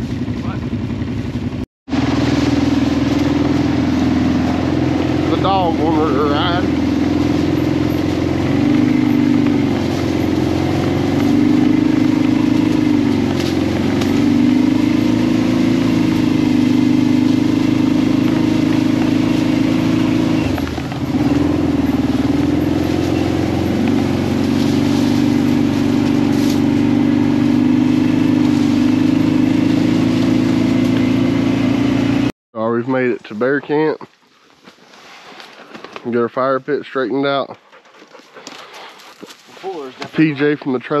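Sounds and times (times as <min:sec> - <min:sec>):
atv engine running: 0:00.0 - 0:32.3, 0:35.9 - 0:41.0.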